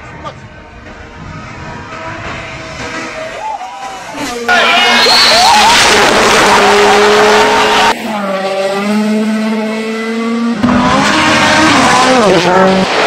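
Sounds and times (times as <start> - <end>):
distant car engine drone: 0.0 - 13.0
rally car engine at full throttle: 0.0 - 13.0
car engine revving: 0.5 - 13.0.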